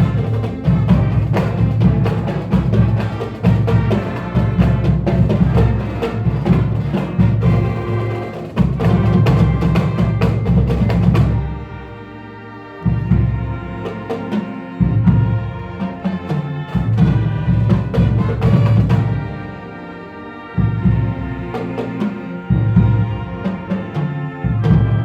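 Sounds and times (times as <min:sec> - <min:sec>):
heavy drums: 0:00.0 - 0:12.0, 0:12.8 - 0:19.8, 0:20.6 - 0:25.0
marching band music: 0:00.0 - 0:25.0.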